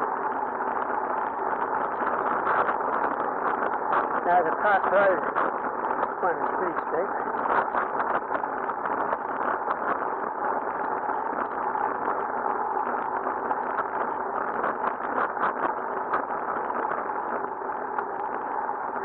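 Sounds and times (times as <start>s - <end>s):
rushing wind: 0.0s - 19.0s
wind buffeting microphone crackle: 0.0s - 19.0s.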